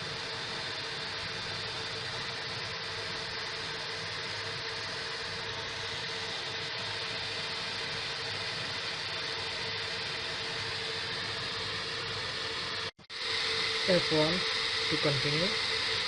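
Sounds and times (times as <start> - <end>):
server cooling fans rushing: 0.0 - 16.0
steady hum: 0.0 - 16.0.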